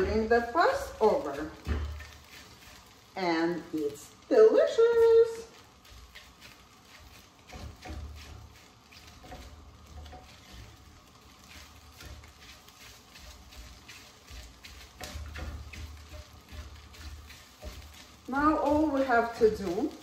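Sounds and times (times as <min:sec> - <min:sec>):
spatula tapping pan: 0:00.0 - 0:03.1, 0:05.5 - 0:20.0
egg sizzling: 0:00.0 - 0:20.0
spatula scraping a skillet: 0:00.0 - 0:20.0.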